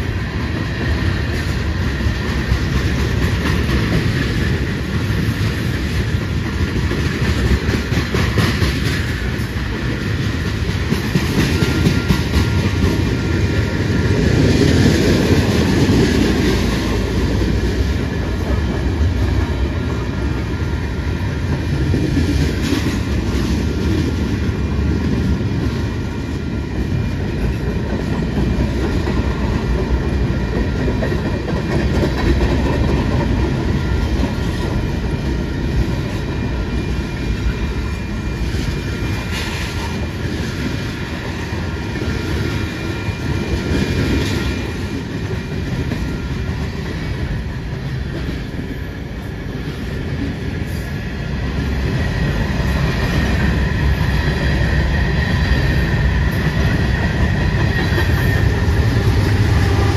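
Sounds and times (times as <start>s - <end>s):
freight train wheels clicking: 0.0s - 59.9s
train rumble: 0.0s - 59.9s.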